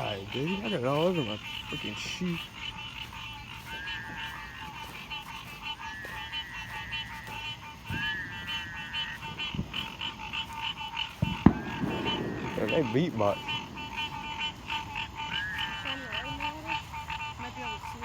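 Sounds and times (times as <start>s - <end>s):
chorus of pulsed frog calls: 0.0s - 18.0s
long trilling toad calls: 0.0s - 18.0s.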